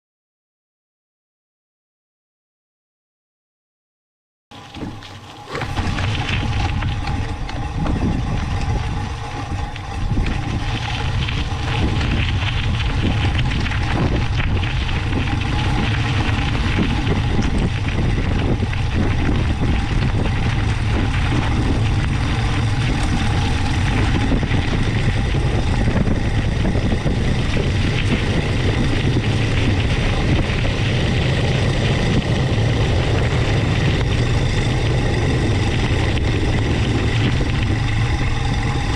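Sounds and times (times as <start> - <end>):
bike tyres crunching gravel: 4.5 - 38.9
wind buffeting microphone: 4.6 - 38.9.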